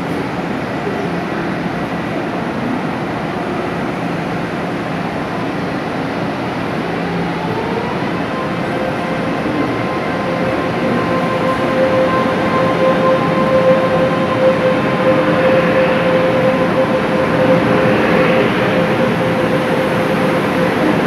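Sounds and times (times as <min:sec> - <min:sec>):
train traction motor whine: 0:03.2 - 0:21.0.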